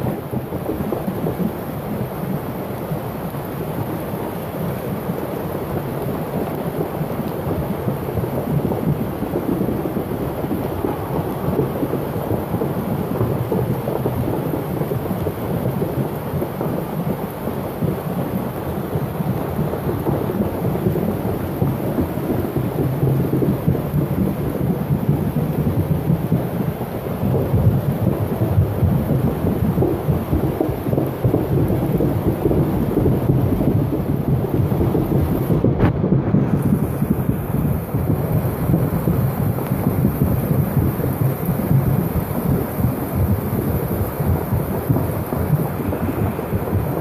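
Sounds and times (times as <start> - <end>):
muddy water rushing down a street: 0.0 - 47.0
rain falling: 0.0 - 47.0.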